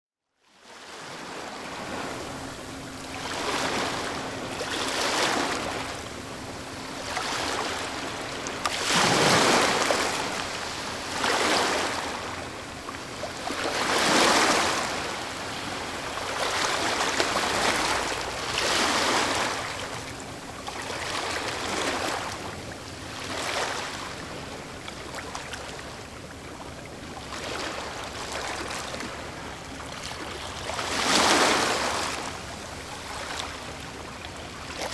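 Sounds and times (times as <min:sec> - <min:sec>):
ocean waves surging: 0:01.7 - 0:25.9, 0:27.3 - 0:34.0.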